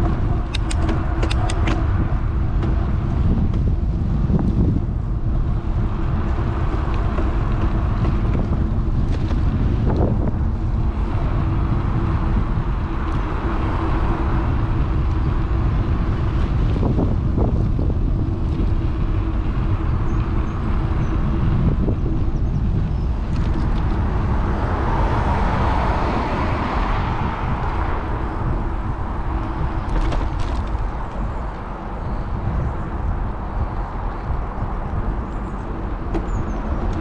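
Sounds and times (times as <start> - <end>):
road traffic: 0.0 - 37.0
vehicle passing: 0.0 - 37.0
wind rumbling on microphone: 0.0 - 37.0.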